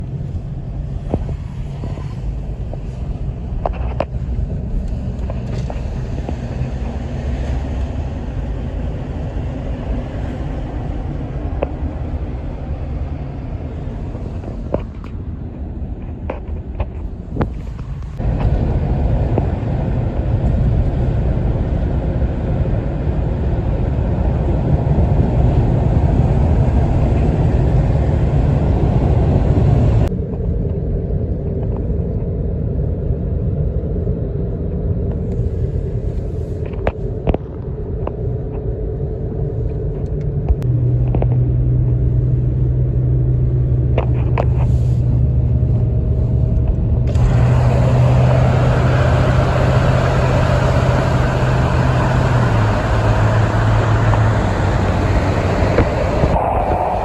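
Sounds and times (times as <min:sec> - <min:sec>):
highway traffic rumble: 0:00.0 - 0:57.0
low engine hum: 0:00.0 - 0:57.0.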